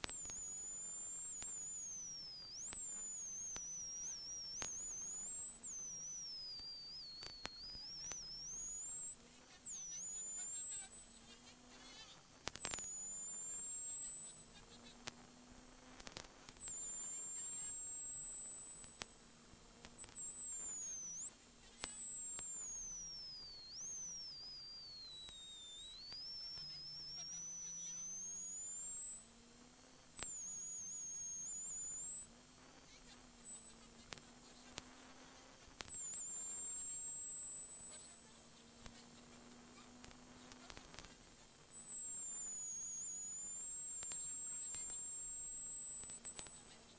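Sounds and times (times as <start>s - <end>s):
thin high whine: 0.0s - 46.9s.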